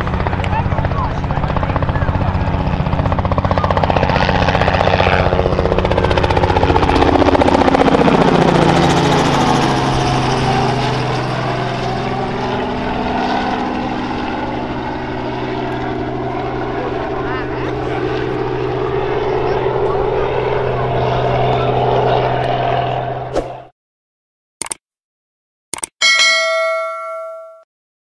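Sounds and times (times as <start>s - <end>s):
helicopter flying overhead: 0.0s - 23.7s.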